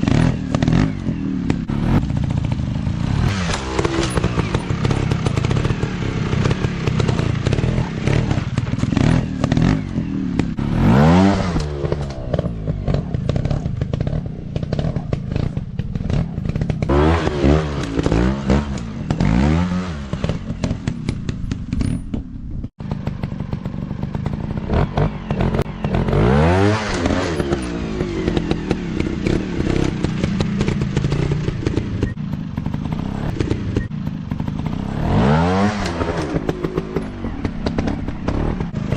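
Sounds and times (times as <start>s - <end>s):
dirt bike engines revving: 0.0s - 21.9s, 22.6s - 38.9s.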